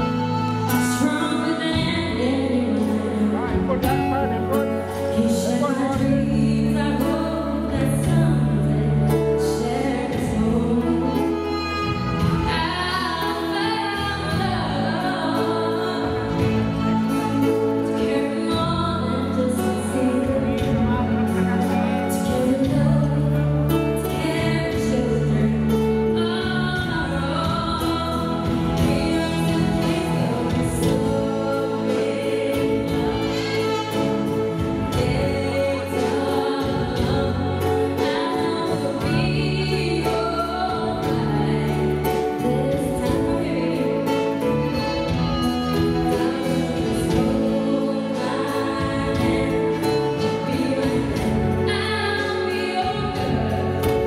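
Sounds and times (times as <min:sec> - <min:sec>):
instrumental backing music: 0:00.0 - 0:54.0
woman singing into microphone: 0:00.0 - 0:54.0.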